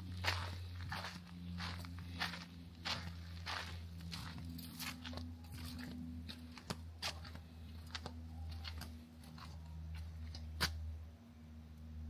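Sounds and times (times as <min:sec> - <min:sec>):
footsteps crunching on a trail: 0:00.0 - 0:10.8
steady low hum: 0:00.0 - 0:12.0.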